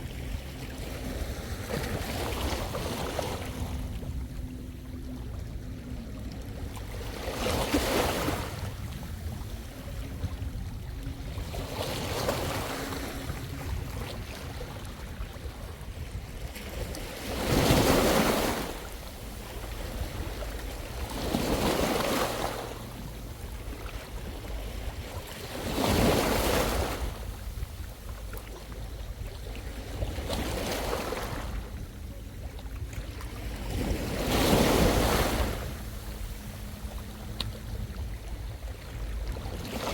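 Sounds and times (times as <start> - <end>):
small waves washing on shore: 0.0 - 39.9
wind rumble on microphone: 0.0 - 39.9.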